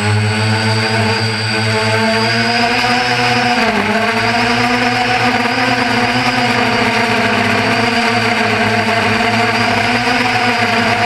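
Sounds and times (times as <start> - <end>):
quadcopter propellers humming: 0.0 - 11.0.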